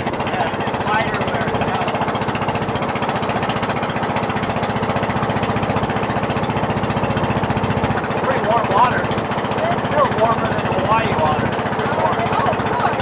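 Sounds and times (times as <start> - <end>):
small boat engine chugging: 0.0 - 13.0.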